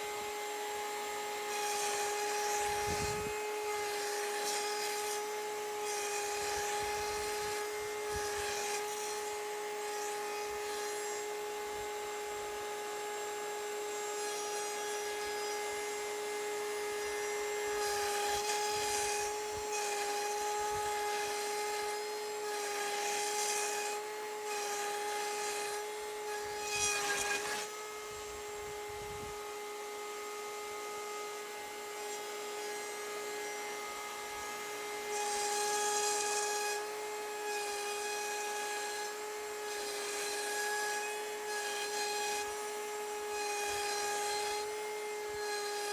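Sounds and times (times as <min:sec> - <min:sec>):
router bit cutting panel: 0:00.0 - 0:45.9
router motor whine: 0:00.0 - 0:45.9.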